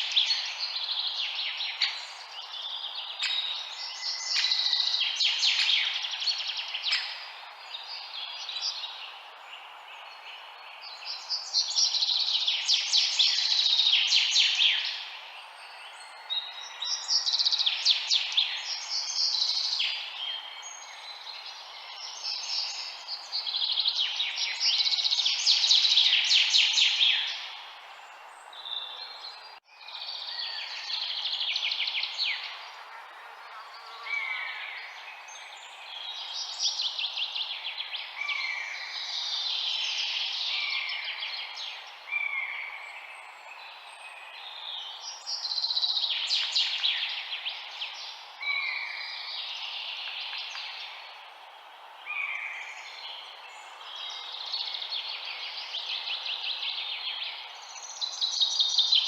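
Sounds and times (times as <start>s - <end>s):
songbirds singing: 0.0s - 59.0s
steady background hiss: 0.0s - 59.0s.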